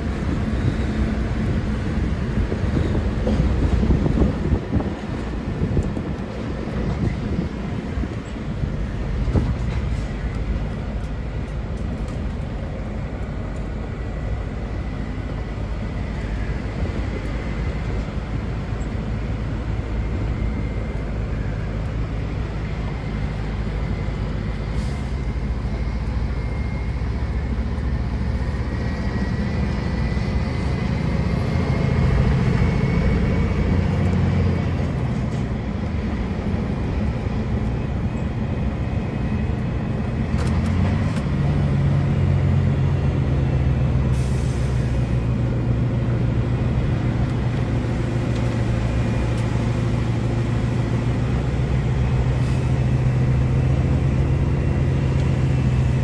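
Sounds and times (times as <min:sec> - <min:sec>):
truck diesel engine running: 0:00.0 - 0:56.0
tyre and road noise: 0:00.0 - 0:56.0.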